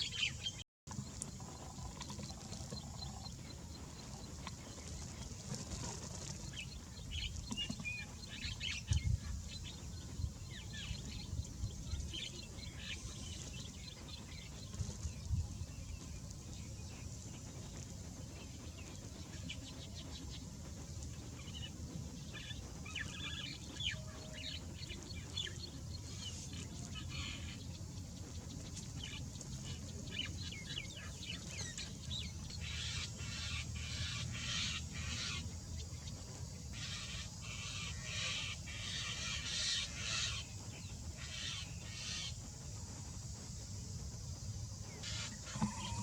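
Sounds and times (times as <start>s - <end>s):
birds chirping: 0.0s - 46.0s.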